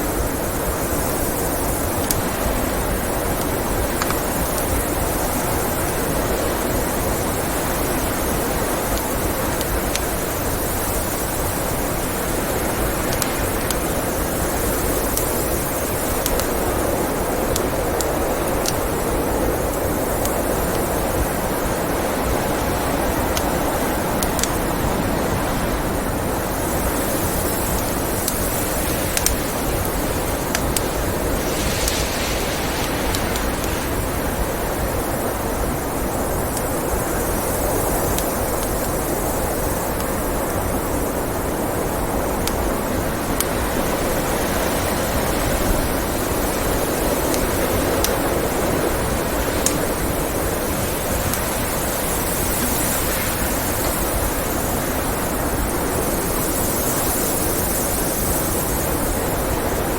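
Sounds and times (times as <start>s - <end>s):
blizzard wind blowing: 0.0s - 59.9s
wood fire crackling: 0.1s - 25.4s, 26.0s - 56.0s.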